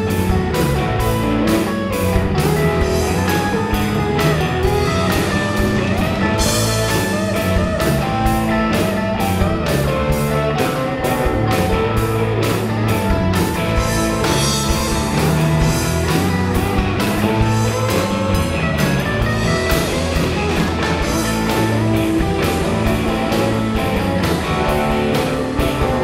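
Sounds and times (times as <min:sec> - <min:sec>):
drums keeping a steady beat: 0:00.0 - 0:26.0
electric guitar: 0:00.0 - 0:26.0.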